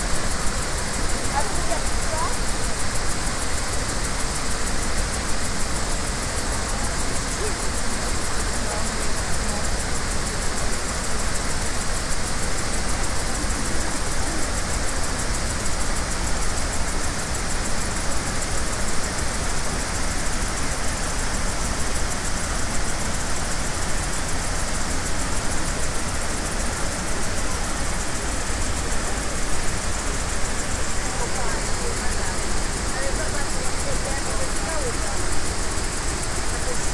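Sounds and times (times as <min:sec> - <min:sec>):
waterfalls roaring: 0:00.0 - 0:36.9.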